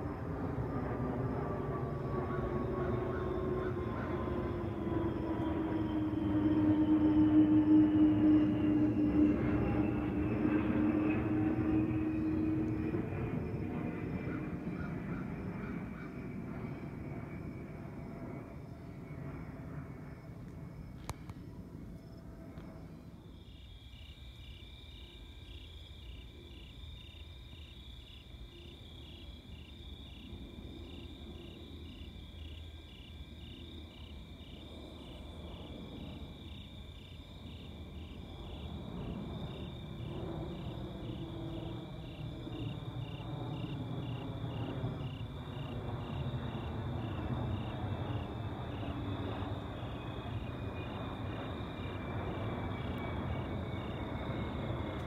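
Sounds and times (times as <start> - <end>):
aircraft engines rumbling: 0.0 - 23.4, 33.8 - 55.0
faint descending whine: 0.0 - 26.8, 37.4 - 55.0
night insects chirping: 0.0 - 55.0.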